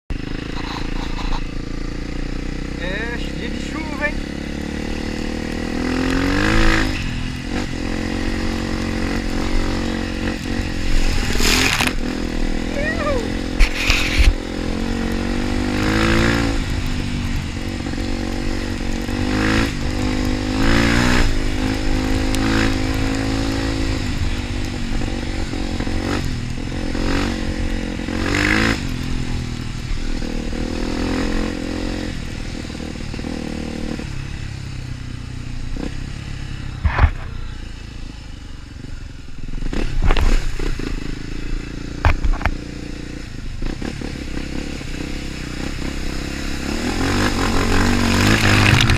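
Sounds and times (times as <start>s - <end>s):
motorcycle engine revving: 0.1s - 48.9s.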